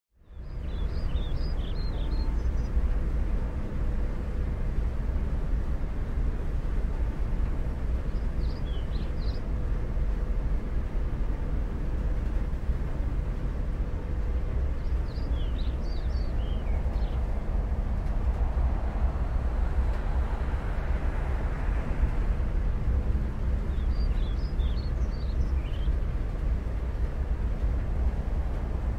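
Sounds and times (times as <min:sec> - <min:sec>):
wind rumble on microphone: 0:00.2 - 0:28.9
broad rushing noise: 0:00.6 - 0:28.9.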